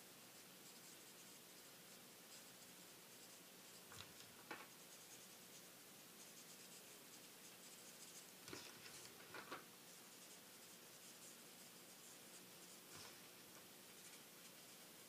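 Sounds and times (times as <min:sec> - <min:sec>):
marker scratching on paper: 0:00.4 - 0:15.0.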